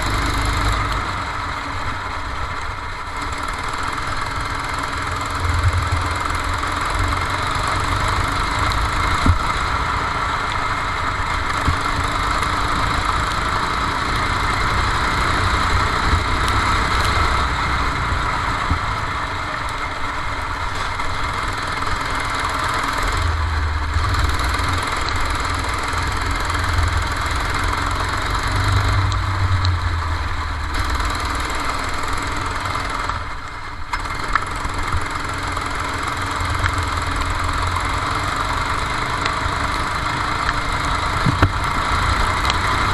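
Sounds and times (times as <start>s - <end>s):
go-kart engine running: 0.0s - 42.9s.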